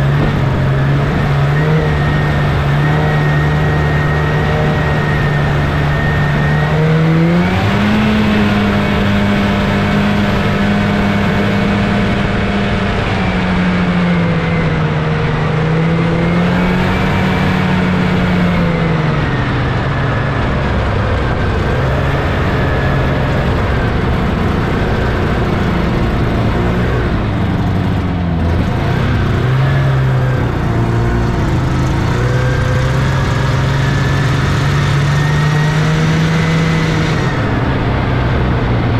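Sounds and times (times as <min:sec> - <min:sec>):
snowmobile two-stroke engine running: 0:00.0 - 0:38.9.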